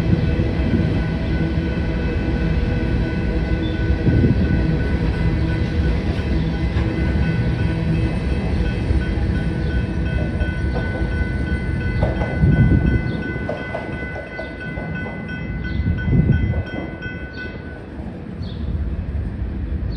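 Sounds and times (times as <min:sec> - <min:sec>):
railroad crossing bell ringing: 0:00.0 - 0:18.6
train wheels rumbling on rail: 0:00.0 - 0:19.9.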